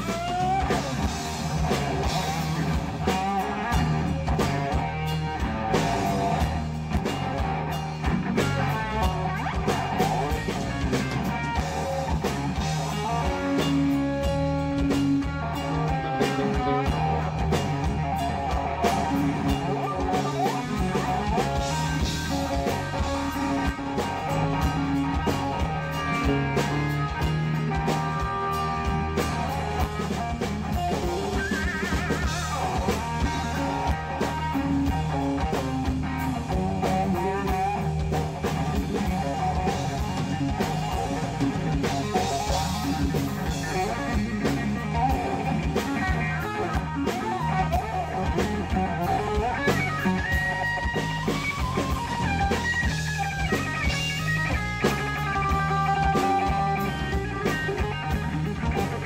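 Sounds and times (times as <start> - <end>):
bass guitar: 0.0 - 59.0
drum kit: 0.0 - 59.0
electric guitar lead: 0.0 - 59.0.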